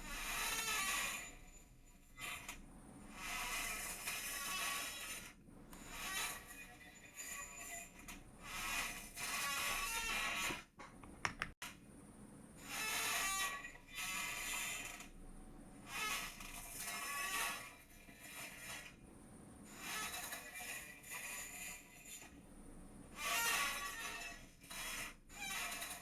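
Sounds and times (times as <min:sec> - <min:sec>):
chair creaking and squeaking: 0:00.0 - 0:01.6, 0:02.2 - 0:11.6, 0:12.7 - 0:15.1, 0:15.9 - 0:19.0, 0:19.7 - 0:22.4, 0:23.2 - 0:26.0.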